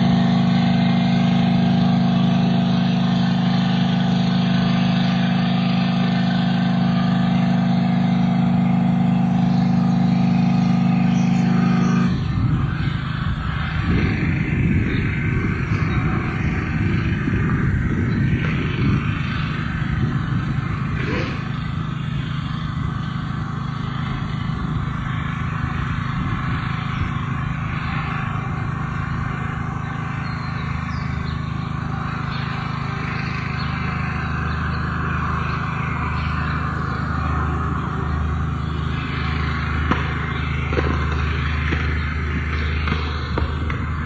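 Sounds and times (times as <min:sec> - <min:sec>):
car engine and road noise: 0:00.0 - 0:44.0
deeper hum: 0:00.0 - 0:44.0.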